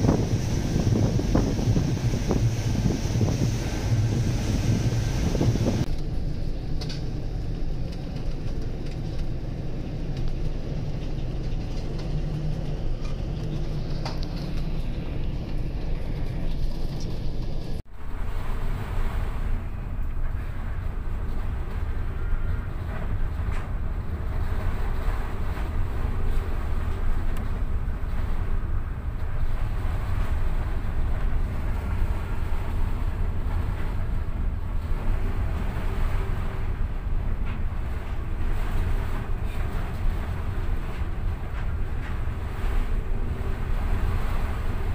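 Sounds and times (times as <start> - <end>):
rough sea breaking: 0.0 - 44.9
ship engine rumble: 0.0 - 44.9
wind noise: 0.0 - 44.9.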